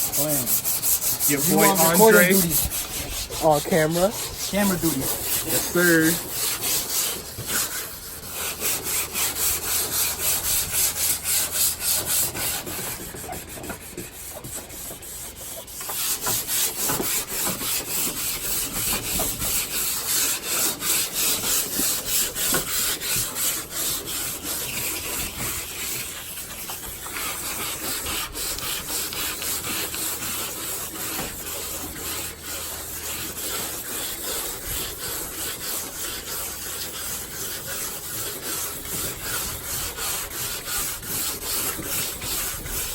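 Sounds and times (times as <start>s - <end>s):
hand sanding with sandpaper: 0.0s - 42.9s.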